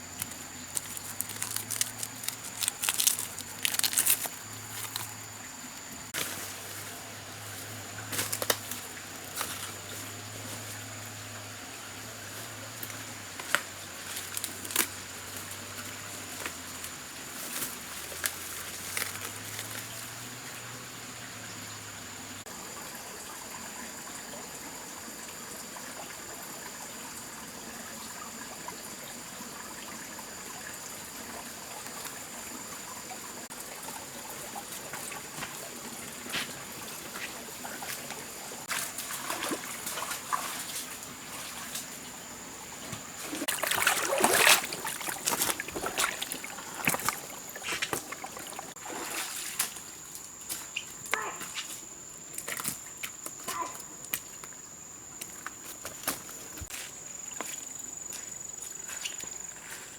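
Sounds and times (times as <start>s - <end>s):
water trickling: 0.0s - 51.0s.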